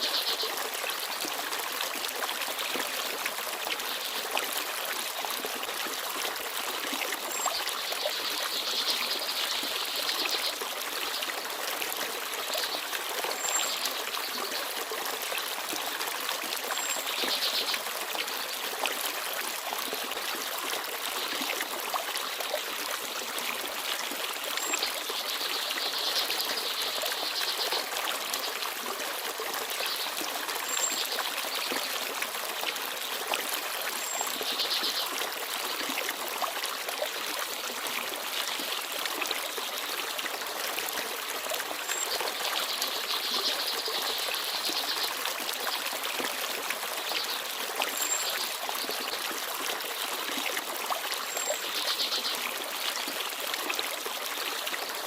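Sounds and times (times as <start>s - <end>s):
forest stream babbling: 0.0s - 55.0s.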